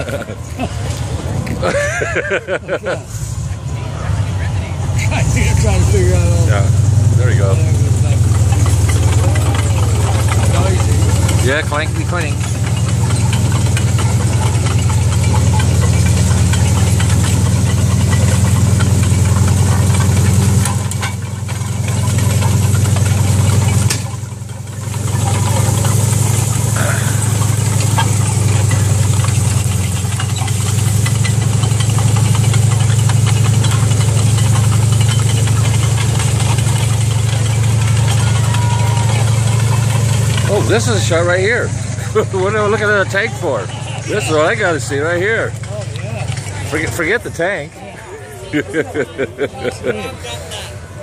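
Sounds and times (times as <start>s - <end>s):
tank engine droning: 0.0s - 51.0s
tank tracks clanking: 4.8s - 51.0s.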